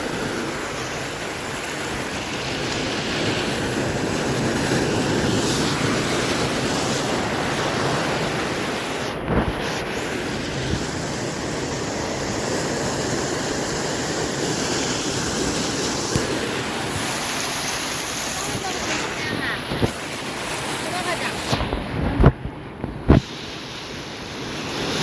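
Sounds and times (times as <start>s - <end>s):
wind buffeting microphone: 0.0s - 23.3s
ocean waves breaking: 0.0s - 25.0s.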